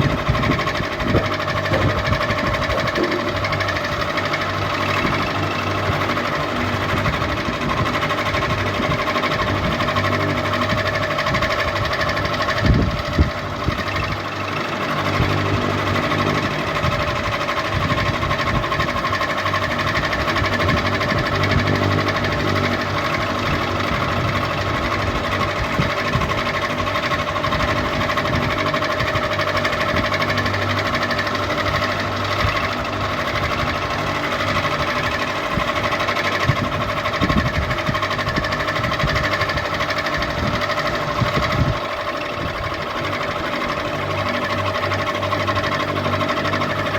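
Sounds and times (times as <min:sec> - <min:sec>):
ceiling fan humming: 0:00.0 - 0:46.9
fan mechanical rattle: 0:00.0 - 0:46.9.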